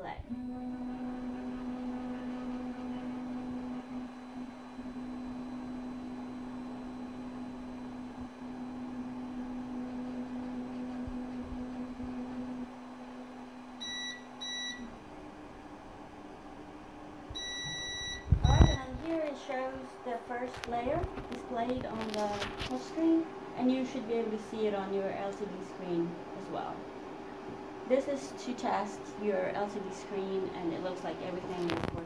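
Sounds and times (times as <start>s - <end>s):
printer motor whine: 0.1s - 32.0s.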